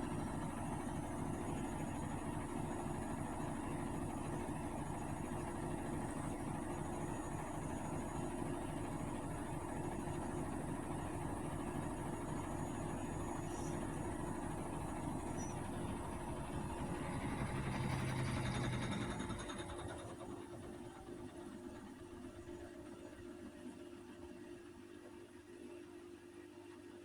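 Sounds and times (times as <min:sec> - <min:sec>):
washing machine humming: 0:00.0 - 0:25.6.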